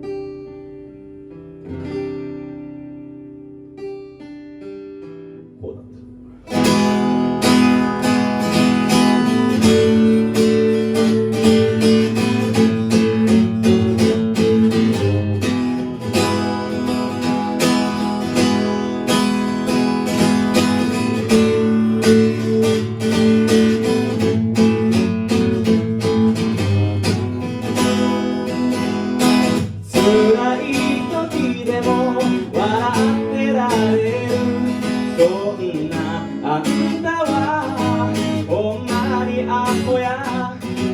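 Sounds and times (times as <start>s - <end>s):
acoustic guitar strummed chords: 0.0s - 40.9s.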